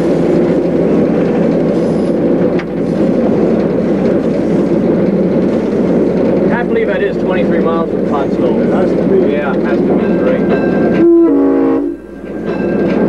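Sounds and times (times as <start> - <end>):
wheels rolling on rails: 0.0 - 11.0
locomotive engine drone: 0.0 - 13.0.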